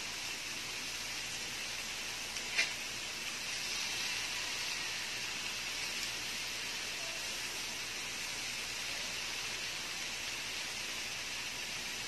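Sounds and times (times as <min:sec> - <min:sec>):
meat sizzling on a grill pan: 0:00.0 - 0:12.0.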